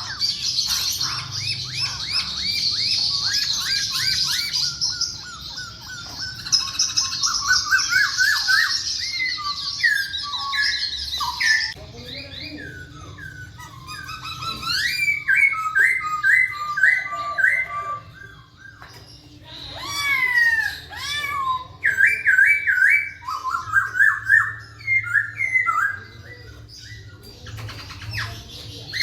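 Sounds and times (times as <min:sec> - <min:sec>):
bird singing chirps and whistles: 0:00.0 - 0:29.0.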